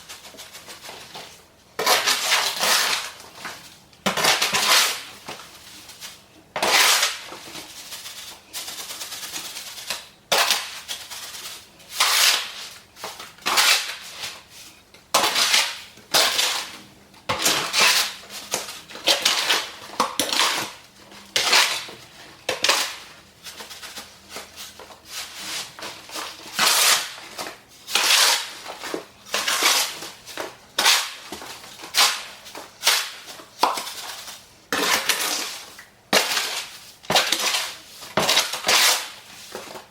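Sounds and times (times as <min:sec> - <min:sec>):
tool scraping wet mortar: 0:00.0 - 0:05.4, 0:06.5 - 0:39.9.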